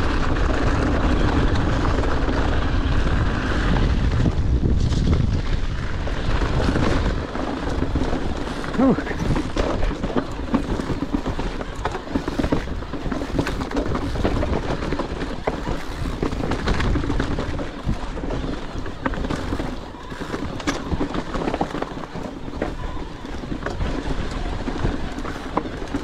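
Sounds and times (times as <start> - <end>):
mountain bike tyres on gravel: 0.0 - 26.0
wheels knocking on rocks: 0.0 - 26.0.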